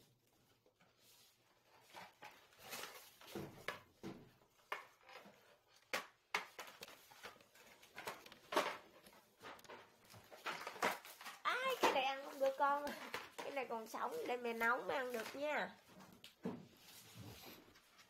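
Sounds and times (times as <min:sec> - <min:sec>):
plastic packaging rustling: 0:00.3 - 0:03.7, 0:04.4 - 0:18.0.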